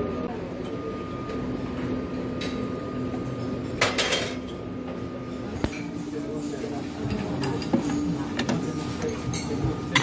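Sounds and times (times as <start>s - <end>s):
steady room hum: 0.0s - 10.0s.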